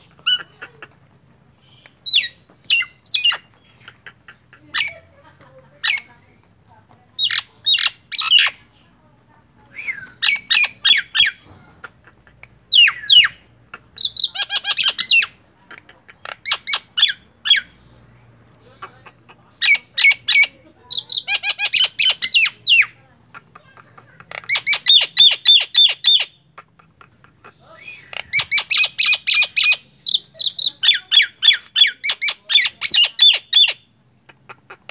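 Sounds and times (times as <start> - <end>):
myna chattering and whistling: 0.0 - 6.5, 7.2 - 8.8, 9.5 - 34.9.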